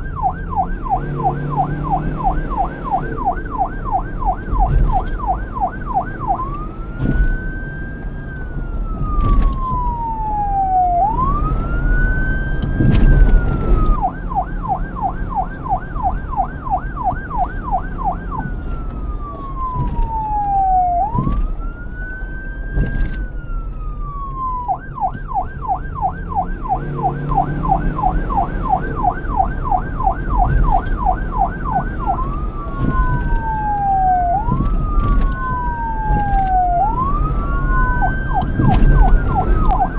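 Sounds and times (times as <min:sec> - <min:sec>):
low engine and traffic rumble: 0:00.0 - 0:39.9
police siren yelp and wail: 0:00.0 - 0:39.9.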